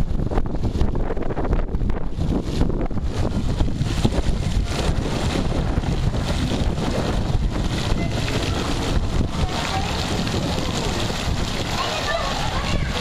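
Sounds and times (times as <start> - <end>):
water splashing in shallow pool: 0.0 - 13.0
wind buffeting microphone: 0.0 - 13.0.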